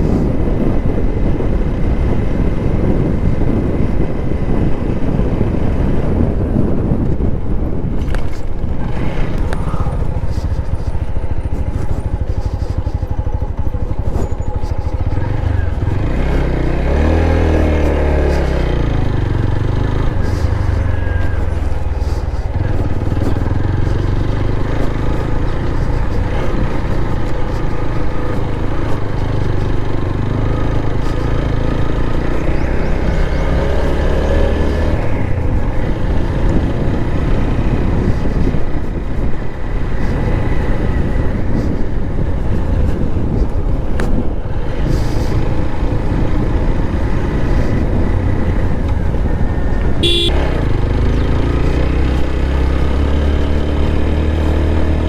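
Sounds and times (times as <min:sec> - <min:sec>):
motorcycle riding: 0:00.0 - 0:55.0
wind rumble on microphone: 0:00.0 - 0:55.0.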